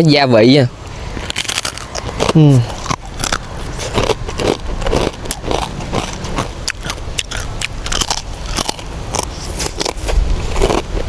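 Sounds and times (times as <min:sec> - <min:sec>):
chewing crispy rice cracker: 0:01.2 - 0:11.0.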